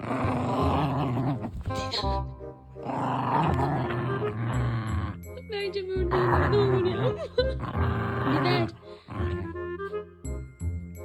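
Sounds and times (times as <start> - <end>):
dog growling: 0.0 - 2.1, 2.8 - 9.9
background music: 0.0 - 11.0.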